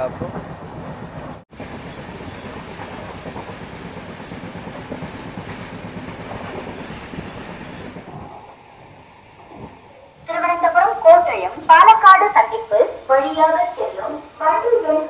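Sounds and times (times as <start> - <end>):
train wheels rumbling on rails: 0.0 - 15.0
constant high hiss: 1.6 - 15.0.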